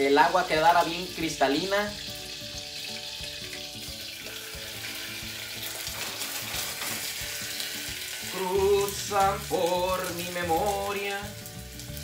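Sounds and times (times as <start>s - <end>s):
faint background music: 0.0s - 12.0s
oil and butter sizzling: 0.0s - 12.0s.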